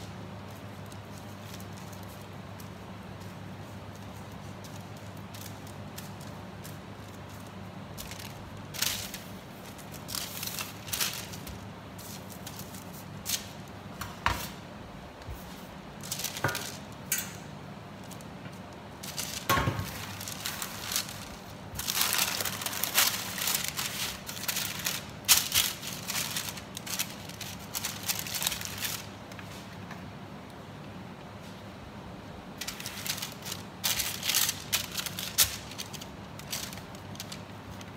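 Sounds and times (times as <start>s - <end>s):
baking paper rustling and crinkling: 0.0s - 17.1s, 17.9s - 29.9s, 32.6s - 37.9s.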